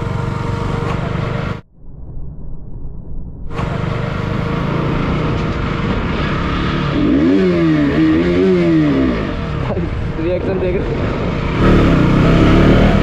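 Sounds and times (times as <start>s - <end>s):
motorcycle engine revving: 0.0s - 1.6s, 3.5s - 13.0s.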